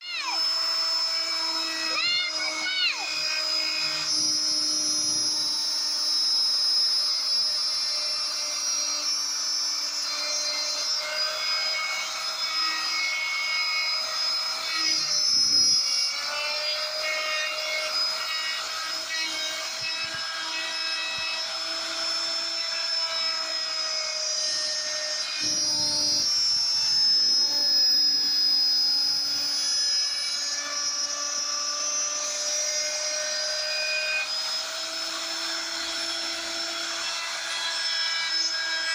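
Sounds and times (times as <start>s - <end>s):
power tool carving wood: 0.0s - 38.9s.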